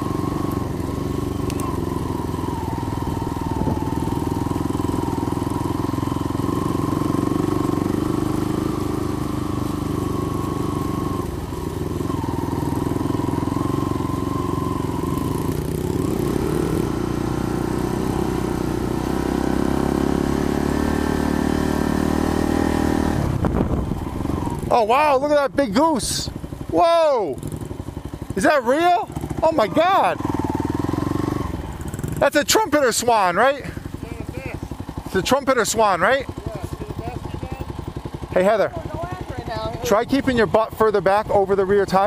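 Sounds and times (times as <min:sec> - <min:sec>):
dirt bike engine running: 0:00.0 - 0:42.0.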